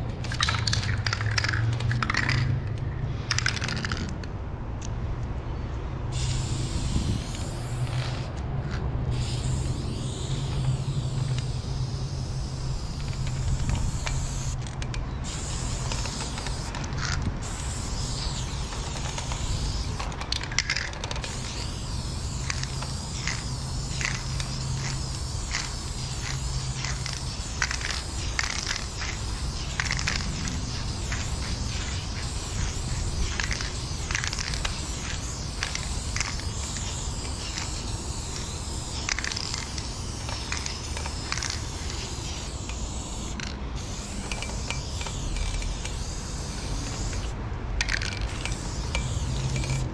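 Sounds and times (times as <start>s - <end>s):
spray can hissing: 0.0s - 2.6s, 6.1s - 49.9s.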